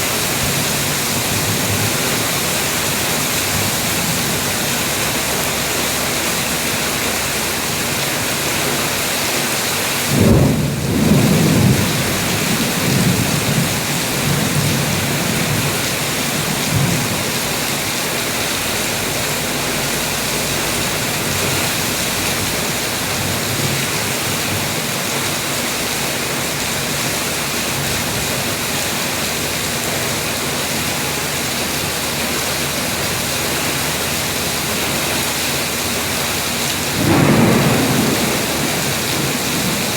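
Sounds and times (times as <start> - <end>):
heavy rain falling: 0.0 - 39.9
thunder clap and rumble: 0.0 - 39.9.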